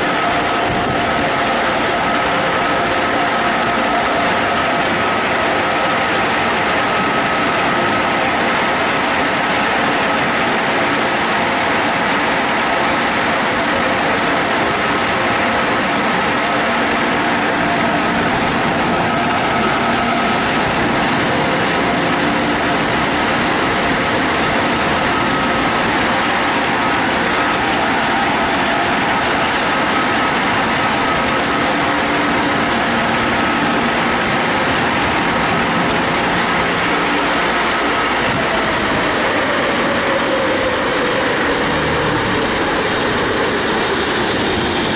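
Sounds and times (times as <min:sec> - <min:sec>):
dryer blowers rushing air: 0:00.0 - 0:44.9
low tone sliding down: 0:00.0 - 0:44.9.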